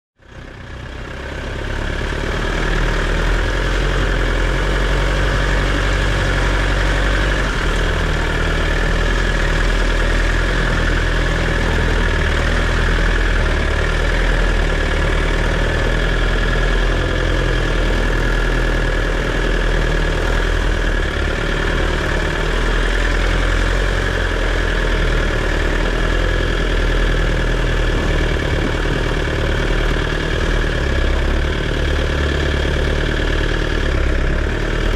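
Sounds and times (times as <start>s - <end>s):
engine running: 0.2s - 34.9s
constant whine: 1.4s - 34.9s.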